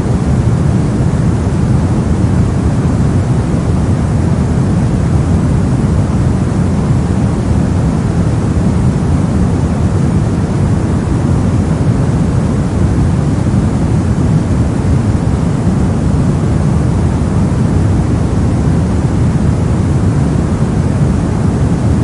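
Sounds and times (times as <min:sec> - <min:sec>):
brown noise: 0:00.0 - 0:22.0.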